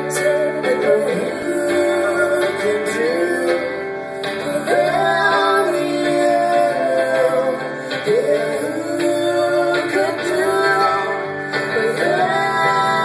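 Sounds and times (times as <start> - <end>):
strummed acoustic guitar: 0.0 - 13.0
woman singing: 0.0 - 13.0.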